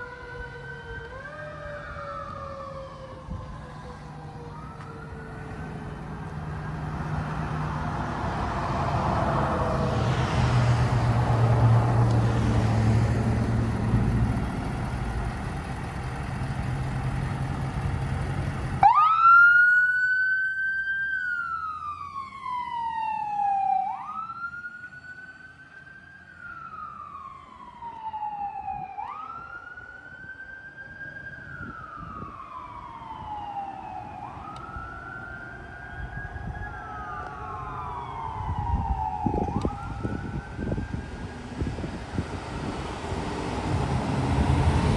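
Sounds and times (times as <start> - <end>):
fire engine siren wailing: 0.0 - 44.9
truck engine and road noise: 0.0 - 44.9.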